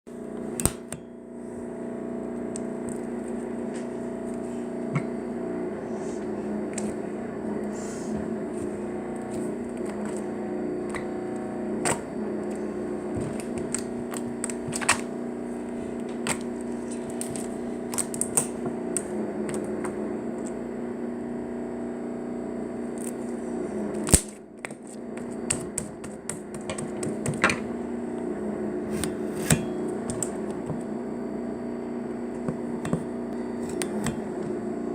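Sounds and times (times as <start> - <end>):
steady background hum: 0.2 - 21.8, 22.8 - 34.9.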